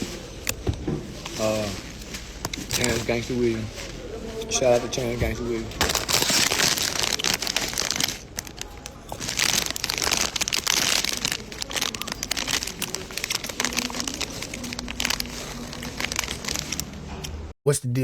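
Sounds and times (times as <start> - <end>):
rustling crackling with clicks: 0.0 - 17.5.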